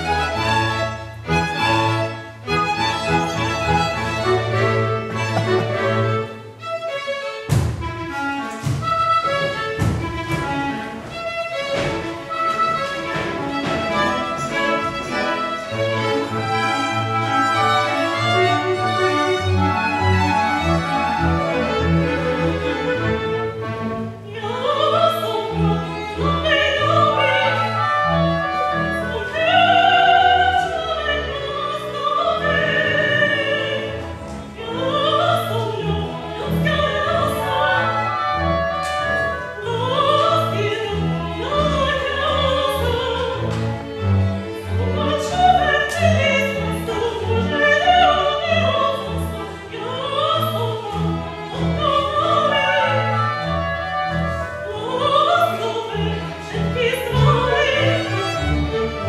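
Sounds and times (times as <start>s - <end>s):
chamber ensemble with violin: 0.0s - 59.0s
soprano singing: 8.1s - 59.0s.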